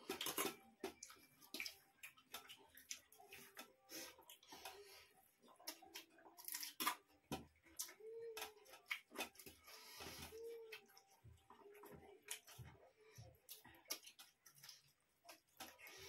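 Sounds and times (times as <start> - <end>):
chewing smacks: 0.0 - 4.8, 5.4 - 16.0.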